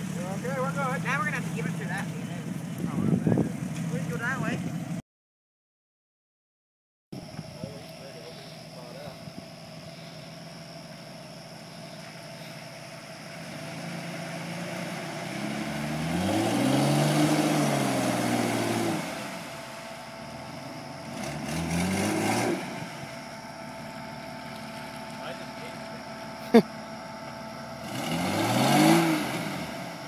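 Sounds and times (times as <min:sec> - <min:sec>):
car engine revving: 0:00.0 - 0:05.0, 0:07.7 - 0:30.0.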